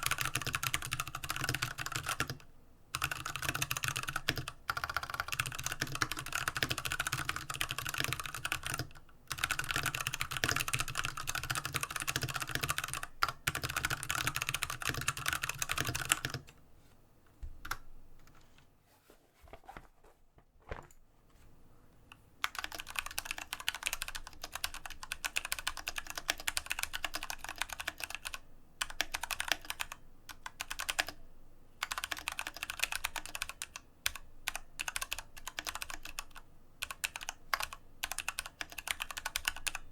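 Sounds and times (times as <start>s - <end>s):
mechanical keyboard typing: 0.0s - 2.4s, 3.0s - 16.5s, 22.4s - 31.2s, 31.8s - 39.9s.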